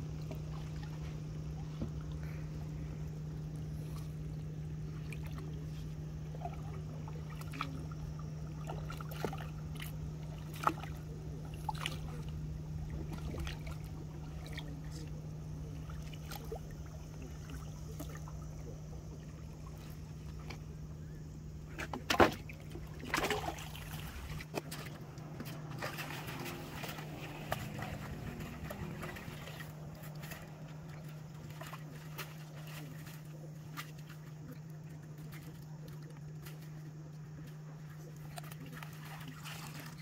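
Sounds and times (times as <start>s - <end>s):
boat motor humming: 0.0s - 40.0s.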